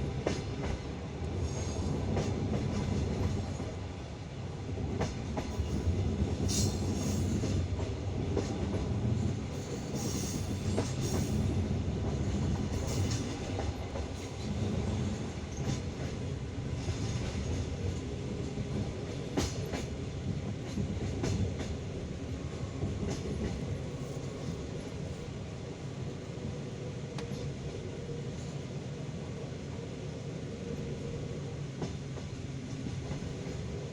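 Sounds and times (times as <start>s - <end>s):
train wheels rumbling and clacking: 0.0s - 28.8s, 30.6s - 33.9s.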